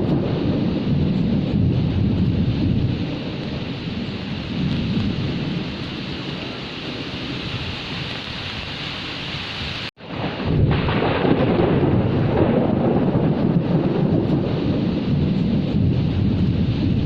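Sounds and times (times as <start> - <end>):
low rumble of thunder: 0.0 - 8.2, 10.0 - 17.0
heavy rain: 0.0 - 17.0.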